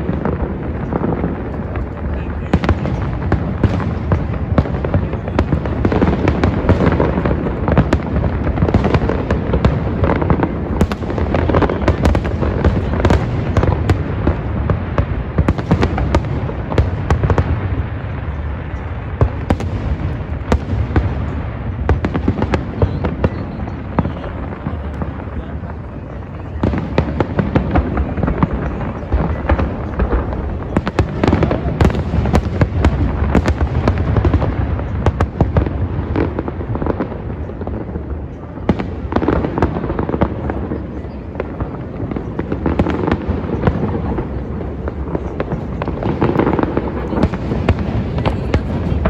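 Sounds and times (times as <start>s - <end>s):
fireworks booming: 0.0s - 49.0s
fireworks cracks and crackles: 0.0s - 49.0s.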